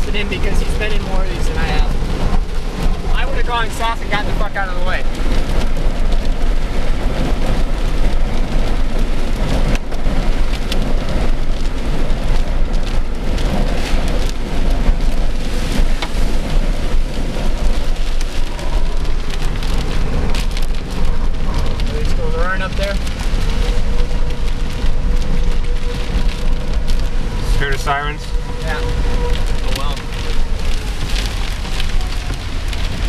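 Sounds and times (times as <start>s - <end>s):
heavy rain hissing on car: 0.0s - 33.0s
raindrops hitting body and glass: 0.0s - 33.0s.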